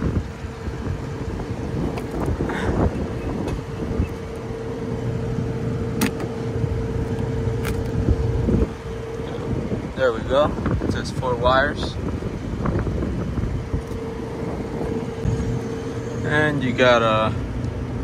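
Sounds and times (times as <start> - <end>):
low rumble: 0.0 - 18.0
mid-pitched hum: 0.0 - 18.0.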